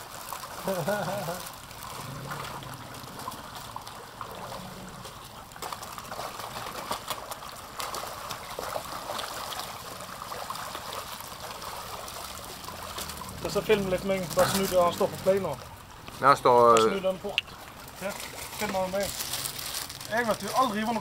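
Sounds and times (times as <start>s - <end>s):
fish splashing at water surface: 0.0s - 16.1s, 16.8s - 21.0s
steady watery wash: 0.0s - 21.0s.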